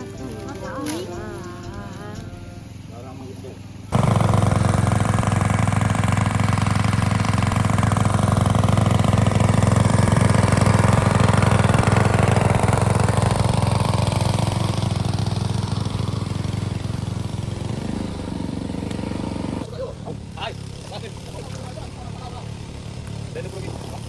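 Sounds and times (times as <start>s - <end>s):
water pump engine running: 2.7s - 24.0s.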